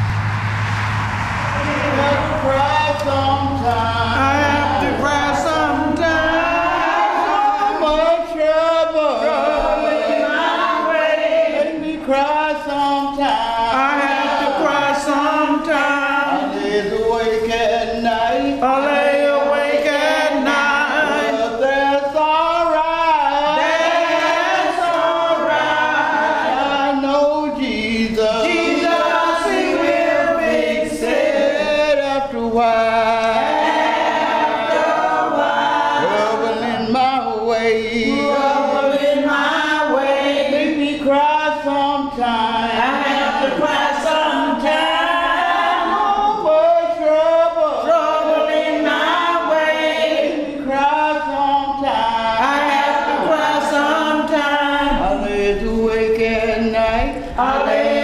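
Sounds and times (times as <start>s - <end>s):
women singing a hymn: 1.6s - 58.0s.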